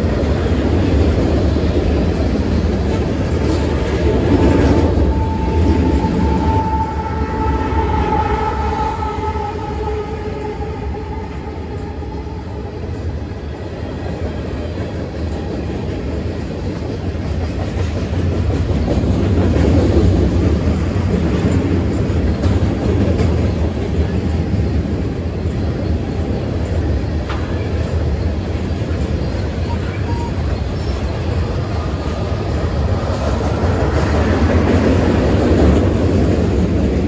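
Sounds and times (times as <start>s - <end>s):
clickety-clack of railcars: 0.0s - 37.0s
freight train rumbling on rails: 0.0s - 37.0s.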